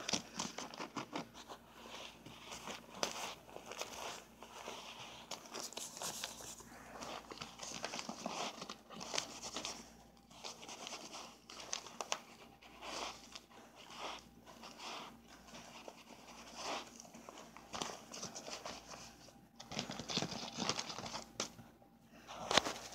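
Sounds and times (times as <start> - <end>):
plastic tube crinkling: 0.0 - 21.6.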